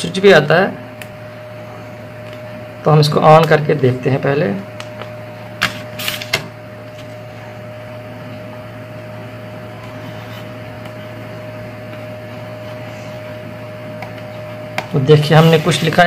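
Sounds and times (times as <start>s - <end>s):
low electrical hum: 0.0s - 16.0s
thin whine: 0.0s - 16.0s.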